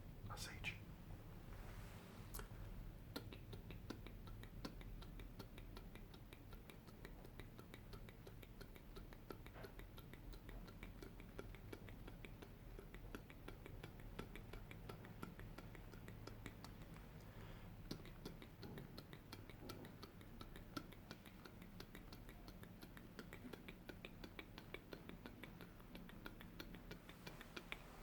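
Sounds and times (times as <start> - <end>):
low steady hum: 0.0 - 28.0
faint clicks and taps: 2.3 - 28.0.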